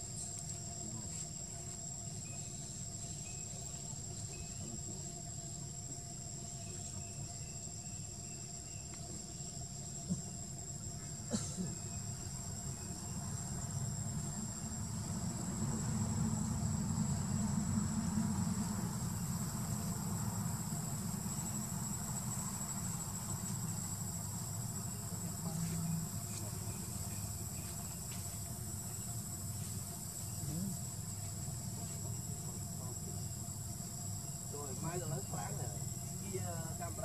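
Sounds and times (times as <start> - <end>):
constant low rumble: 0.0 - 37.0
insects droning with high whine: 0.0 - 37.0.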